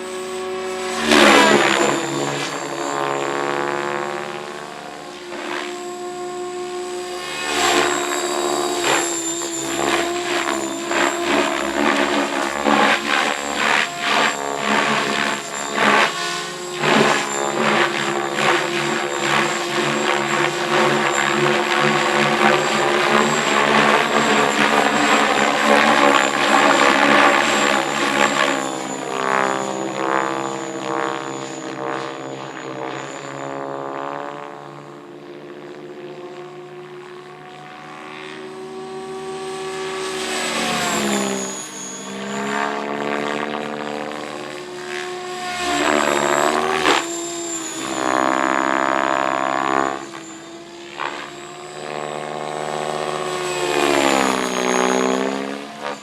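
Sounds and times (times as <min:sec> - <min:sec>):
propeller aircraft engine passing: 0:00.0 - 0:56.0.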